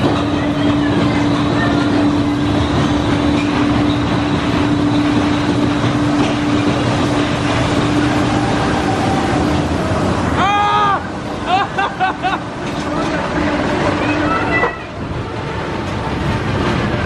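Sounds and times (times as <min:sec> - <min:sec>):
roller coaster rumbling on track: 0:00.0 - 0:17.0
steady hum: 0:00.0 - 0:17.0.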